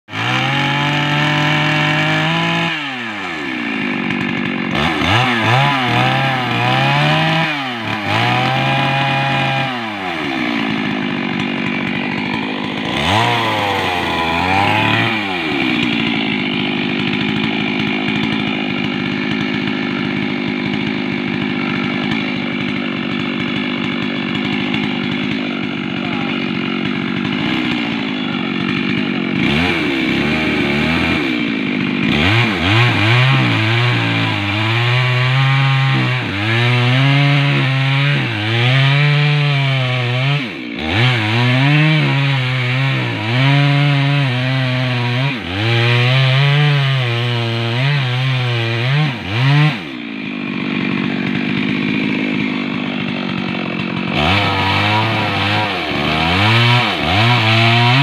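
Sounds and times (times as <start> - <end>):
chainsaw cutting tree trunk: 0.1 - 58.0.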